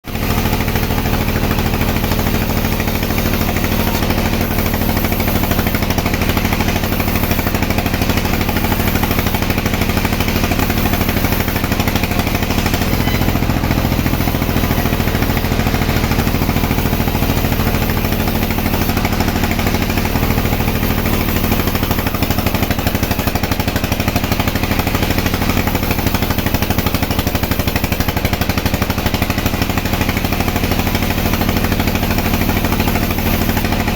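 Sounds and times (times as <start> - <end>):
sawmill machinery droning: 0.0 - 33.9.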